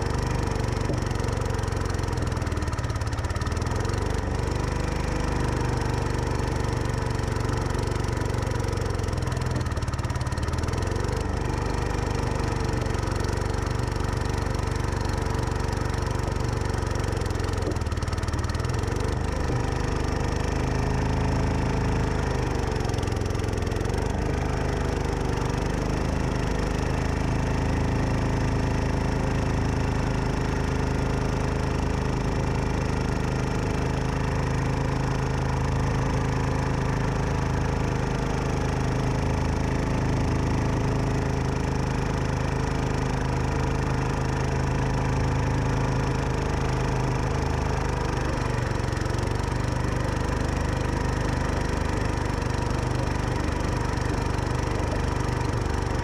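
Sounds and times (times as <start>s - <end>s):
garden tractor engine running: 0.0s - 56.0s.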